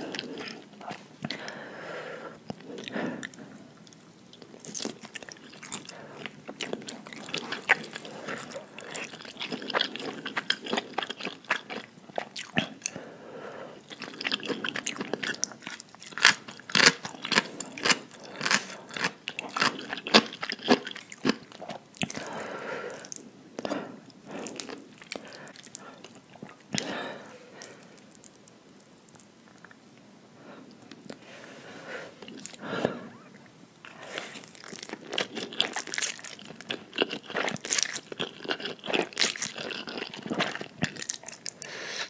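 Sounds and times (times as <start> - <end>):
chewing noodles: 2.4 - 13.0, 13.8 - 28.5, 32.2 - 41.7.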